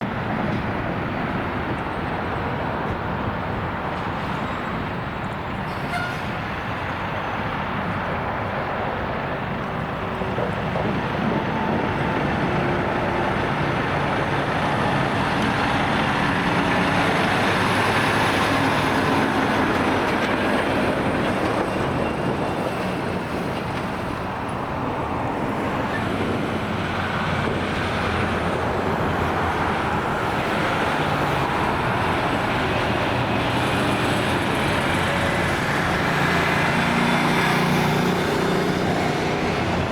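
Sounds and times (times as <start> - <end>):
trucks passing on road: 0.0 - 39.9.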